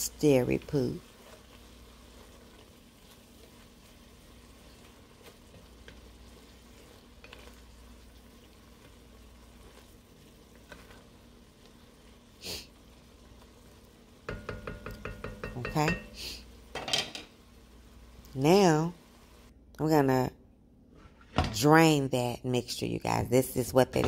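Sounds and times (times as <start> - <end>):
vegetables sizzling in butter: 0.0 - 19.5
wooden spoon stirring and scraping: 0.0 - 19.5.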